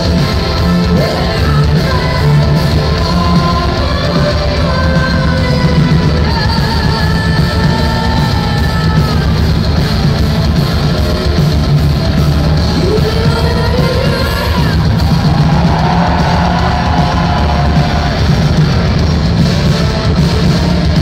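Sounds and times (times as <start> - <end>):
distorted electric guitars: 0.0 - 21.0
drums: 0.0 - 21.0.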